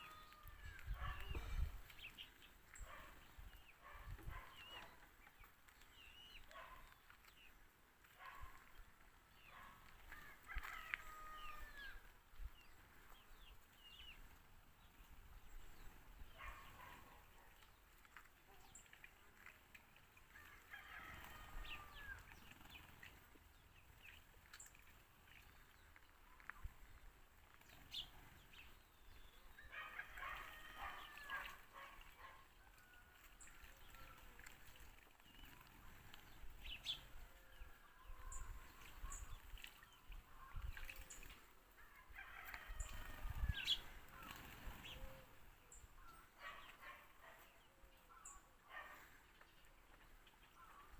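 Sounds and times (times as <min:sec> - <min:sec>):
sparrows chirping: 0:00.0 - 0:07.6, 0:08.2 - 0:19.2, 0:20.8 - 0:32.4, 0:33.4 - 0:41.4, 0:42.6 - 0:50.9.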